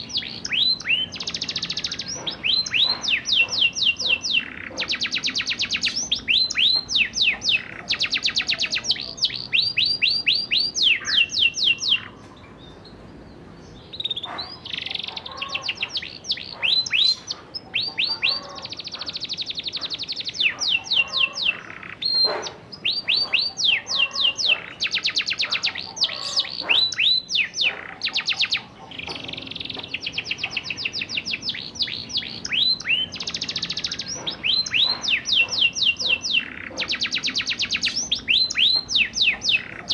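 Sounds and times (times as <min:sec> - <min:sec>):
canary singing trills and whistles: 0:00.0 - 0:13.0, 0:13.6 - 0:39.9.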